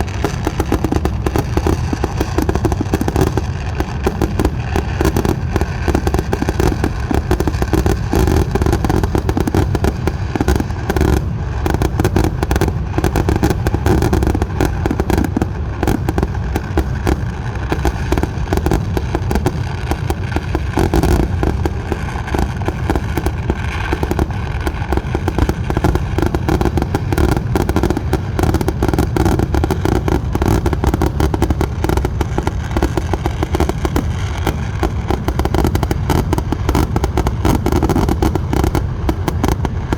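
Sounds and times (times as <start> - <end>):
fireworks explosions: 0.0 - 39.9.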